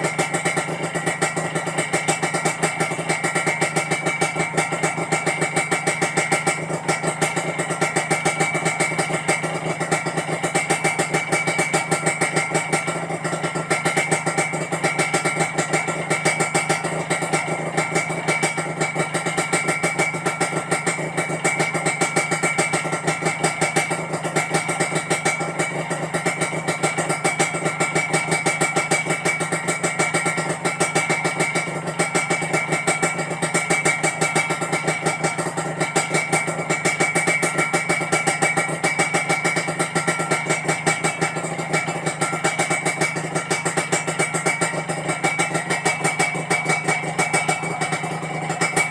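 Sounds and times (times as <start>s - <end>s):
motorcycle engine idling: 0.0s - 48.9s.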